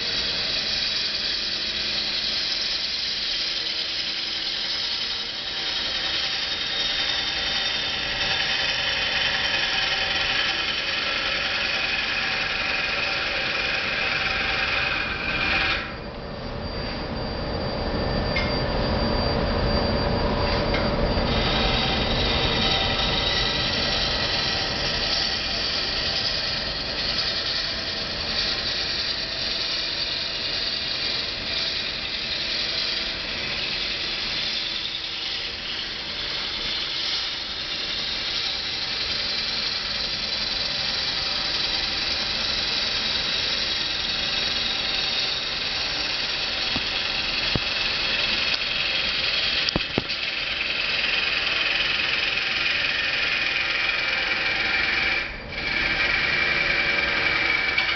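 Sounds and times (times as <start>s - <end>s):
turning tool cutting wood: 0.0s - 16.0s, 21.1s - 57.9s
wood lathe running: 0.0s - 16.1s, 20.8s - 57.9s.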